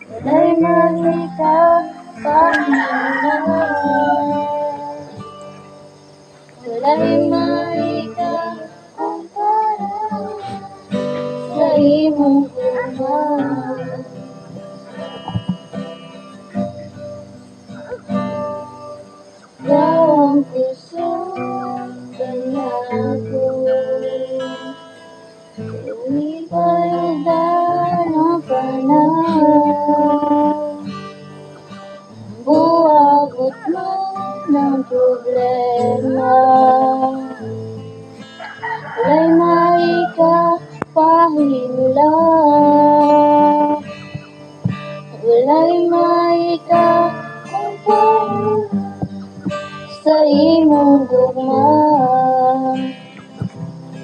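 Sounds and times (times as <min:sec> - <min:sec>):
person singing into a microphone: 0:00.0 - 0:05.2, 0:06.6 - 0:14.4, 0:19.6 - 0:24.9, 0:25.7 - 0:31.0, 0:32.2 - 0:37.9, 0:39.0 - 0:53.5
amplified backing music with guitar: 0:00.0 - 0:54.0.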